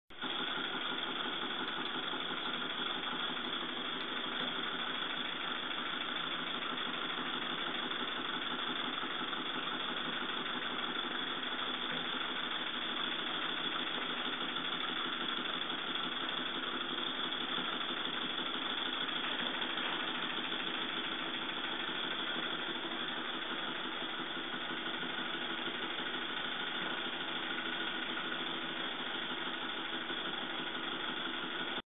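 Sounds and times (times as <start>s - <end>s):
model steam engine running: 0.1s - 31.8s.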